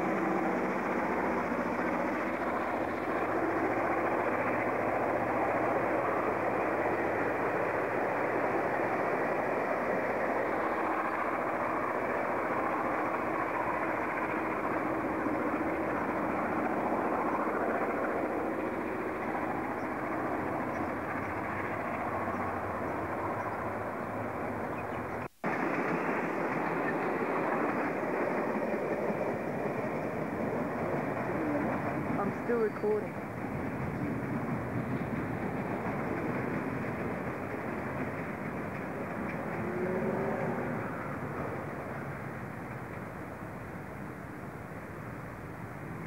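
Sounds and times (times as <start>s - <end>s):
locomotive engine hum: 0.0s - 46.0s
train carriages rumbling on rails: 0.0s - 46.0s.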